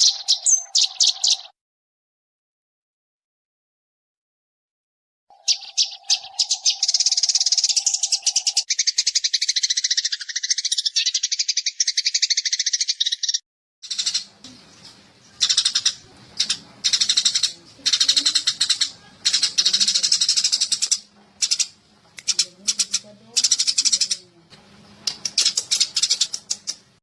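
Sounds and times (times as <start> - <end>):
sparrow chirping rapidly: 0.0 - 1.5, 5.3 - 24.3, 25.1 - 27.0.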